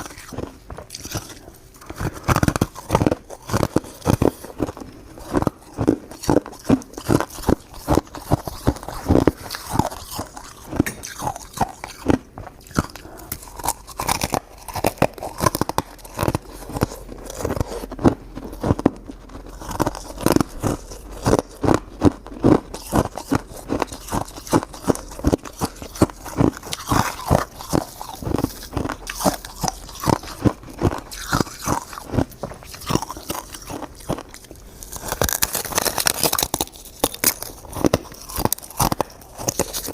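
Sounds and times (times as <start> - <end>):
person chewing crunchy ice: 0.0 - 39.9.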